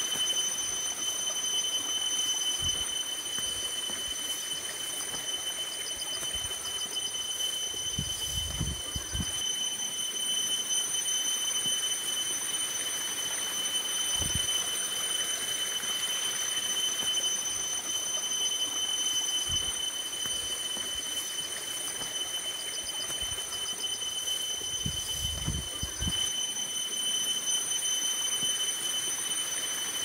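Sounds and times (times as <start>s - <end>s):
steady high-pitched whine: 0.0s - 30.0s.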